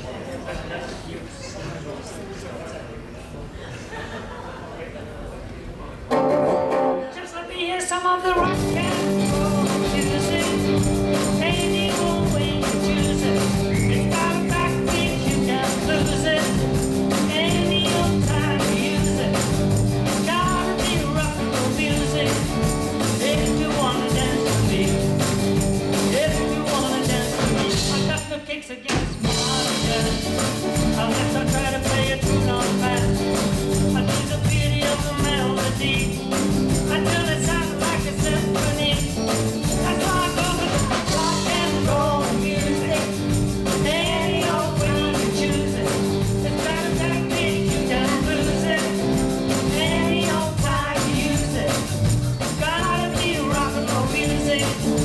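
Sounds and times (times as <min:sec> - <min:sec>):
live rock band playing: 0:06.1 - 0:07.2, 0:08.3 - 0:28.3, 0:28.9 - 0:55.0.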